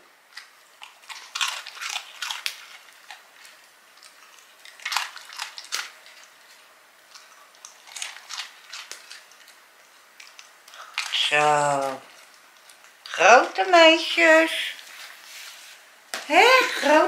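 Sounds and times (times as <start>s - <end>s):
dogs crunching biscuits: 0.2s - 15.3s.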